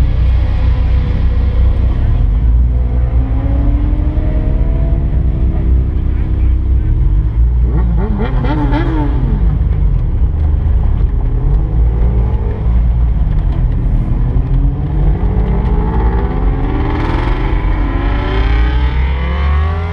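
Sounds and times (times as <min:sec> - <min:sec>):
car engine accelerating: 0:00.0 - 0:19.9.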